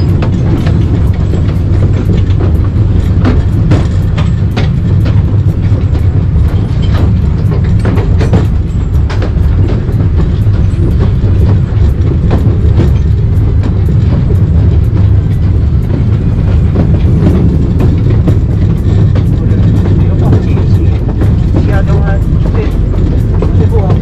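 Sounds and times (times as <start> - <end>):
train rumbling: 0.0 - 24.0
wheels clacking on track: 0.0 - 24.0.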